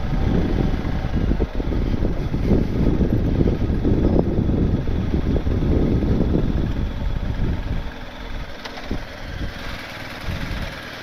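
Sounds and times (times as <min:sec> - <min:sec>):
wind rumble on microphone: 0:00.0 - 0:10.9
motorcycle engine idling: 0:00.0 - 0:11.0.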